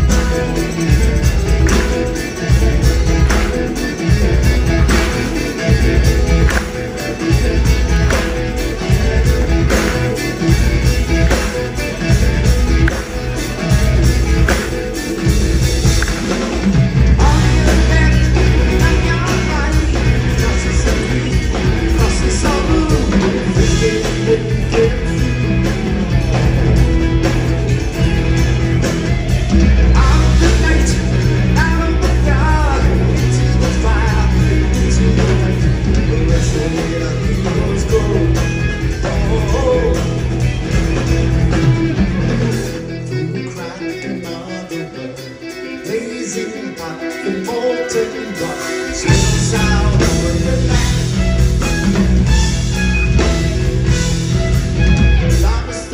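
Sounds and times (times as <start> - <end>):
electric guitar: 0.0 - 55.9
rock band playing: 0.0 - 55.9.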